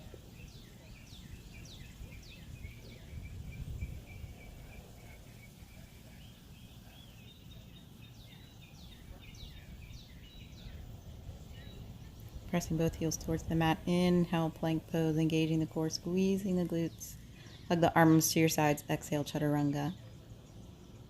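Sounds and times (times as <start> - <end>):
birds chirping and calling: 0.0 - 18.7
low outdoor rumble: 0.0 - 21.0.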